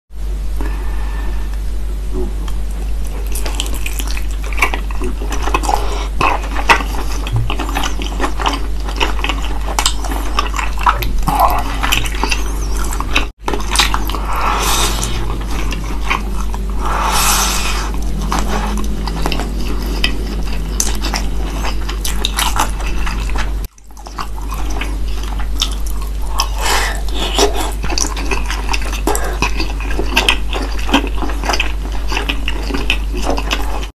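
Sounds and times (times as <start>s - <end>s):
low hum: 0.2s - 32.0s
wet chewing and smacking: 2.5s - 33.9s.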